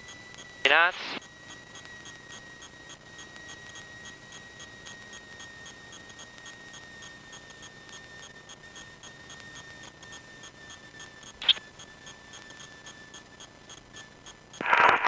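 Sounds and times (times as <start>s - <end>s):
light regular ticking: 0.0s - 14.6s
high electrical whine: 0.0s - 15.0s.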